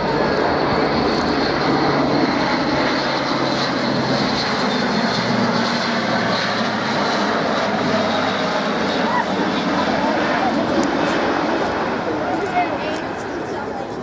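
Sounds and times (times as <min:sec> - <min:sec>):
turboprop aircraft engines: 0:00.0 - 0:14.0.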